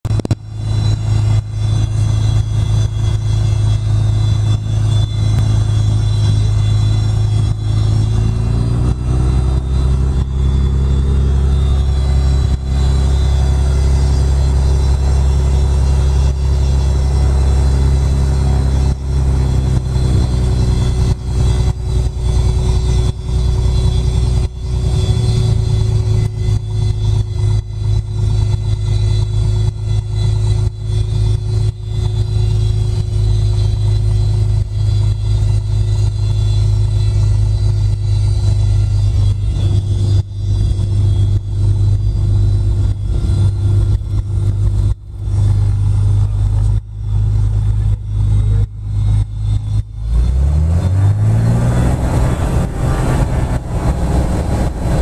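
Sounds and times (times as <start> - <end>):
aircraft engine and propeller drone: 0.0 - 55.0.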